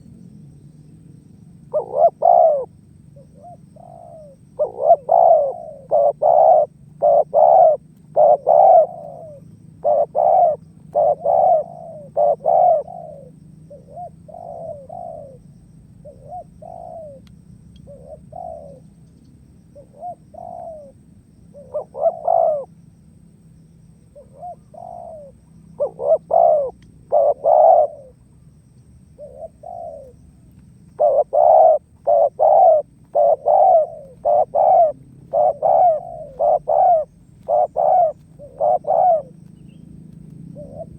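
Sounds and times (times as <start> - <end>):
dove cooing: 1.6 - 19.1, 19.8 - 22.8, 24.0 - 40.9.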